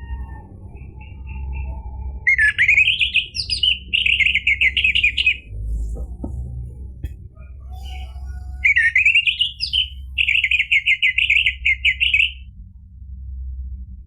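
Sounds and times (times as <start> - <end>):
bird singing: 0.0 - 6.2, 7.4 - 12.5
low steady hum: 0.0 - 14.0.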